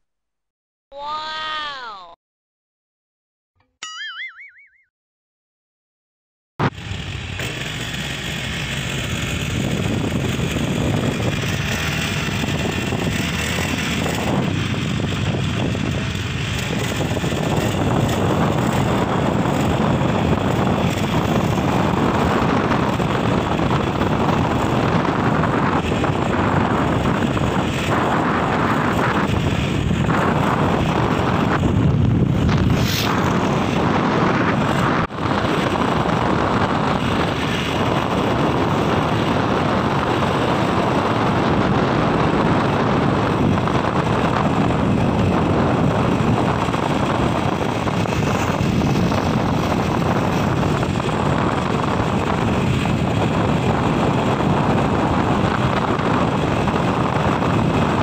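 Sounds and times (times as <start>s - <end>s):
motorcycle road and engine noise: 6.6s - 58.0s
wind on microphone: 8.4s - 58.0s.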